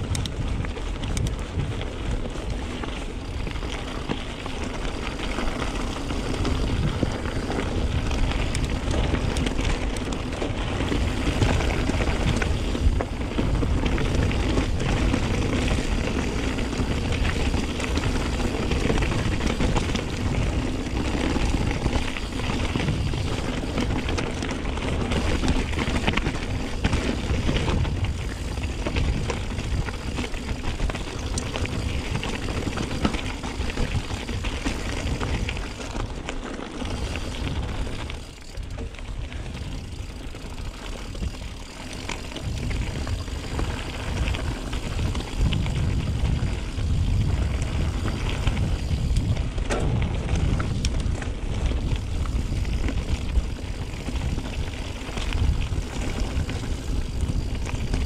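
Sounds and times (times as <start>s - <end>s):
bike rattles and clicks: 0.0s - 58.0s
low wind rumble: 0.0s - 58.0s
tyres rolling over gravel: 0.1s - 58.0s.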